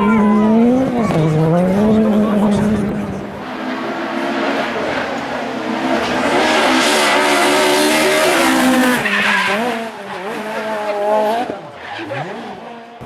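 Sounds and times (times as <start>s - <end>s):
rally car engine at high revs: 0.0s - 13.0s
tyre and road noise: 0.0s - 13.0s.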